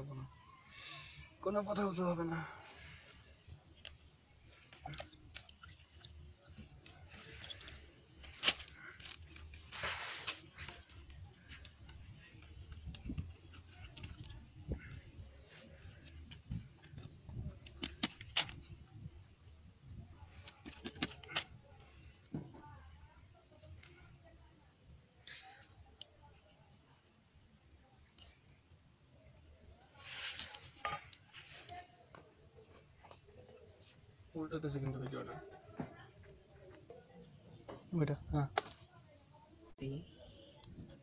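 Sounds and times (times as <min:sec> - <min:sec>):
crickets chirring: 0:00.0 - 0:41.0.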